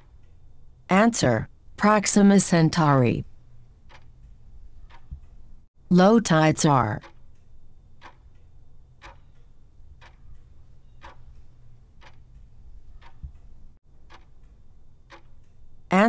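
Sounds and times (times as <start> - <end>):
clock ticking: 2.6 - 16.0.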